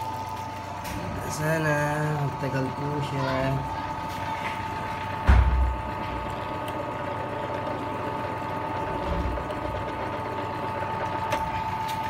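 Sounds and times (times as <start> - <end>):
drill press motor whining: 0.0 - 12.0.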